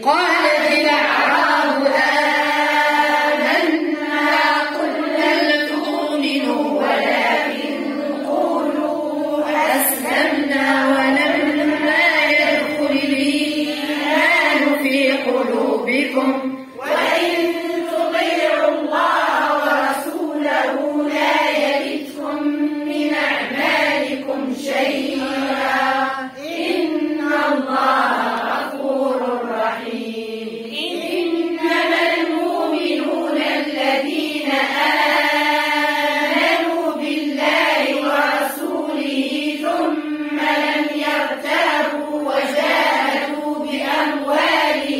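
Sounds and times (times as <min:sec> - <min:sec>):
women chanting in unison: 0:00.0 - 0:44.9.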